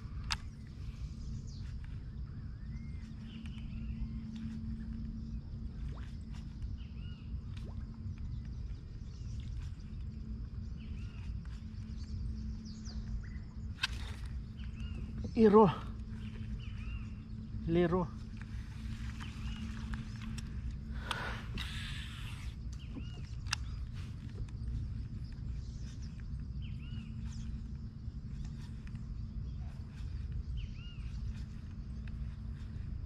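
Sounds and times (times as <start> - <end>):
low rumble: 0.0 - 33.0.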